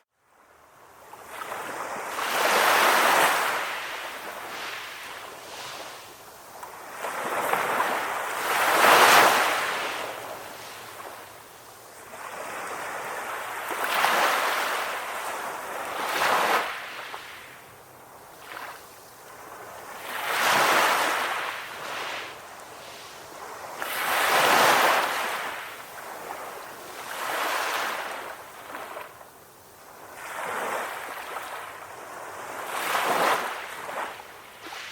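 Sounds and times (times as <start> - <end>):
sea waves crashing on shore: 1.2 - 34.9.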